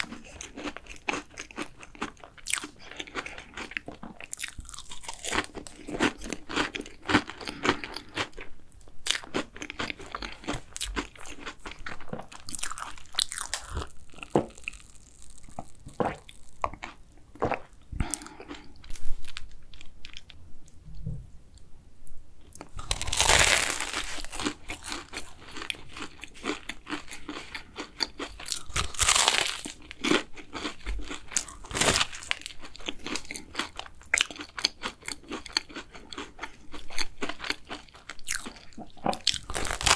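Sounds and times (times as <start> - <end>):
chewing with crisp crunches: 0.0 - 20.8, 22.4 - 39.9.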